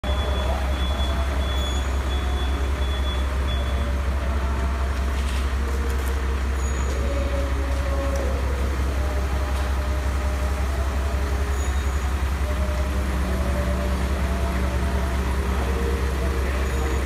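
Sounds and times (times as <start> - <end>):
forklift engine droning: 0.0 - 17.0.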